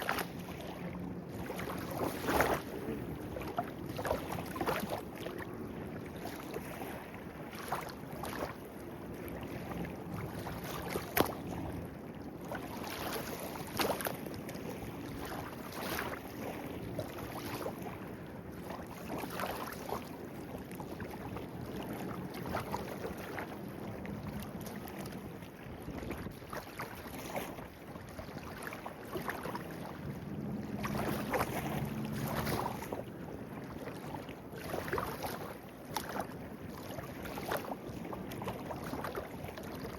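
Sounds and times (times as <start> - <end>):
small water splashes: 0.0 - 39.9.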